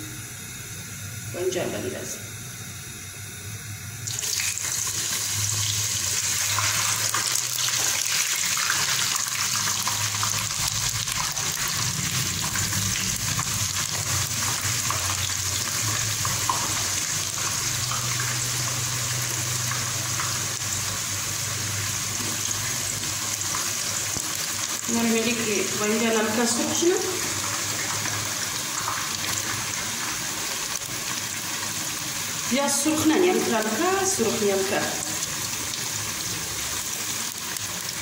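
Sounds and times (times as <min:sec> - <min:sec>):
eggplant sizzling in hot oil: 0:04.0 - 0:38.0.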